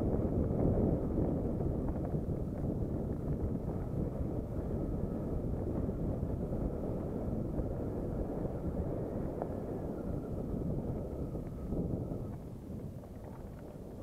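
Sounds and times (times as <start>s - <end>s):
bike rolling low rumble: 0.0s - 14.0s
wind rushing over microphone: 0.0s - 14.0s.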